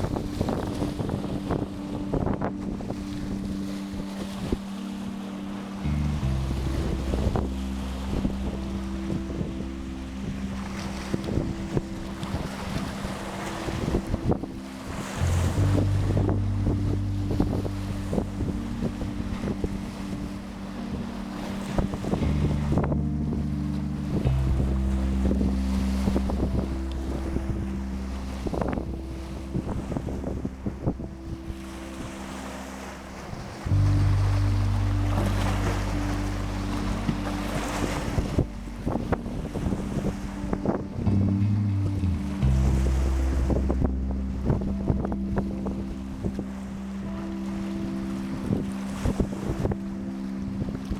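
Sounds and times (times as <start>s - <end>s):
low held musical chord: 0.0s - 50.9s
sea waves splashing: 0.0s - 50.9s
wind buffeting microphone: 0.0s - 50.9s.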